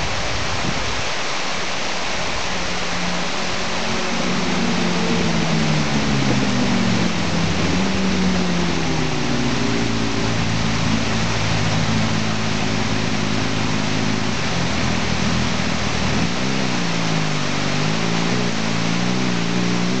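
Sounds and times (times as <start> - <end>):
waterfall rushing: 0.0 - 20.0
vehicle engine running: 2.3 - 20.0.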